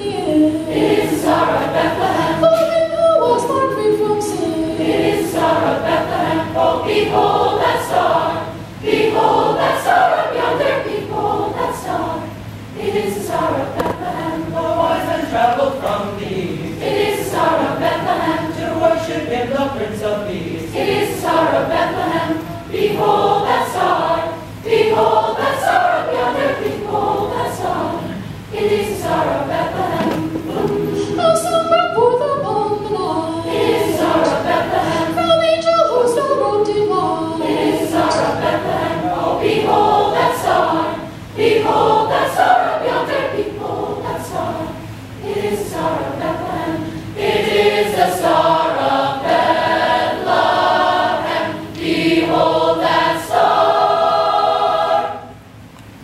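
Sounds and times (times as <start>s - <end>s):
mixed choir singing: 0.0s - 2.6s, 4.3s - 55.6s.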